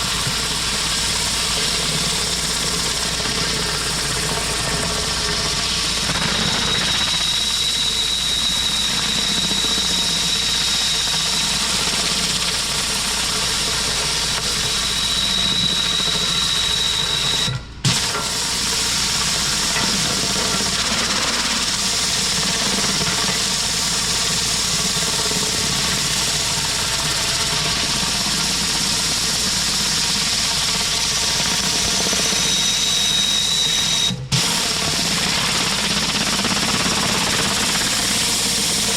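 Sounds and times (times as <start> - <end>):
pressure washer engine drone: 0.0 - 38.9.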